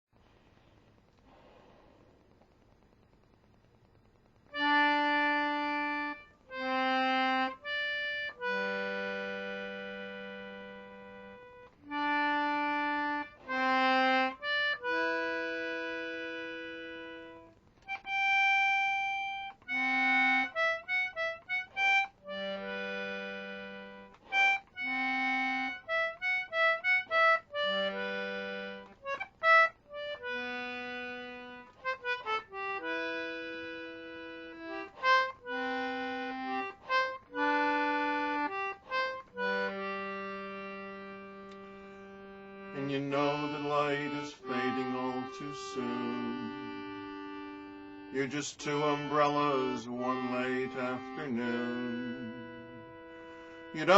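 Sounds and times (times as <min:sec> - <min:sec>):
concertina playing: 0:04.5 - 0:53.9.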